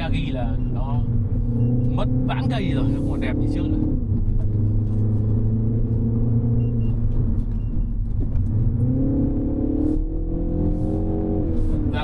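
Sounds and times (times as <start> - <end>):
car engine running: 0.0 - 12.0
road and tyre noise: 0.0 - 12.0.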